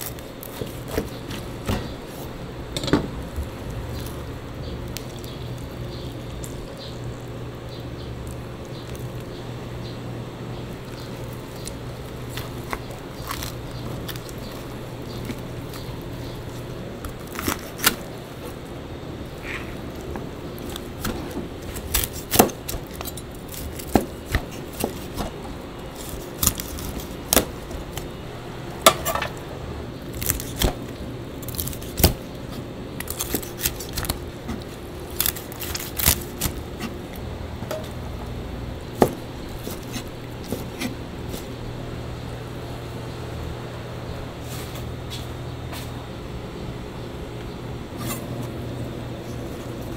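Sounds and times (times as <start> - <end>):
steady machine hum: 0.0 - 49.9.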